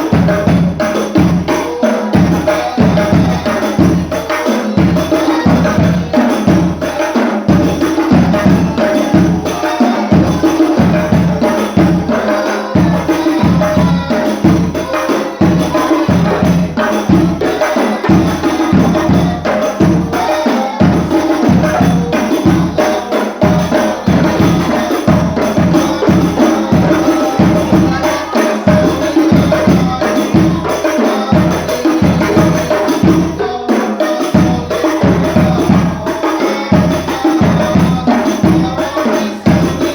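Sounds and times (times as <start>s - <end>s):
frame drums playing a driving rhythm: 0.0s - 39.9s.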